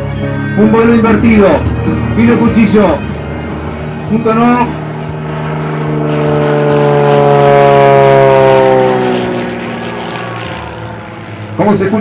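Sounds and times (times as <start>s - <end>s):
propeller plane passing overhead: 0.0s - 12.0s.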